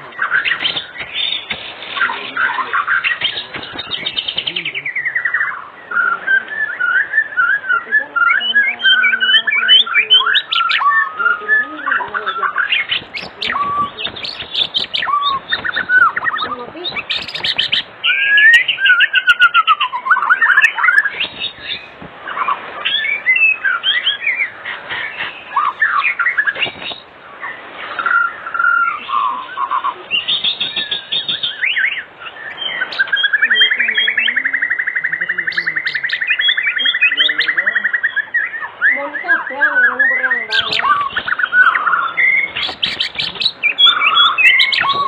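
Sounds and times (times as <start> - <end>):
fast buzzy bird trill: 0.0 - 45.0
songbird singing: 0.0 - 45.0.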